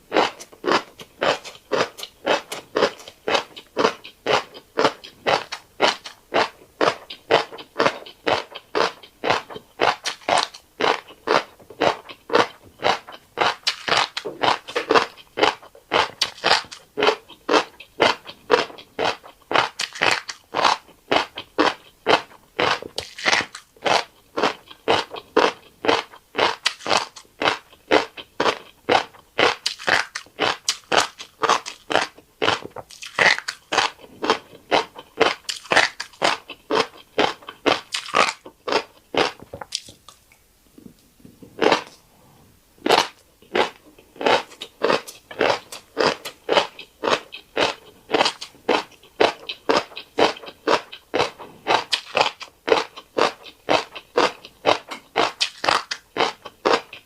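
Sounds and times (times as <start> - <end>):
person chewing wet crackly food: 0.0 - 42.0, 42.8 - 57.0.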